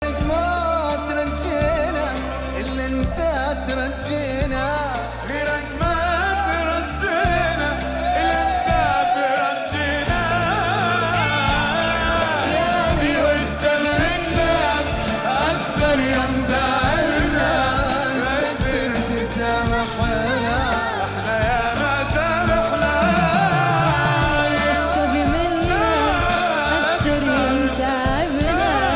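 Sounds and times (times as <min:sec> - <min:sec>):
bass and percussion: 0:00.0 - 0:28.9
person singing ornamented melody: 0:00.0 - 0:28.9.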